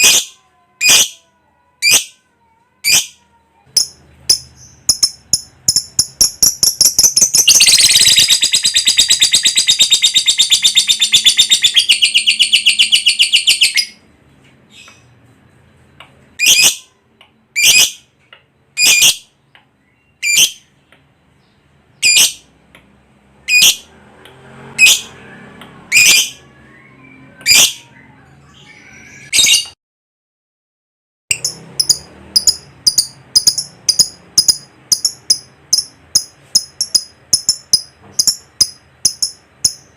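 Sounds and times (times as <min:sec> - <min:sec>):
lovebird chirping and trilling: 0:00.0 - 0:02.2, 0:02.8 - 0:14.1, 0:16.4 - 0:18.2, 0:18.8 - 0:20.8, 0:21.4 - 0:22.5, 0:23.4 - 0:23.9, 0:24.7 - 0:29.8, 0:31.3 - 0:39.9.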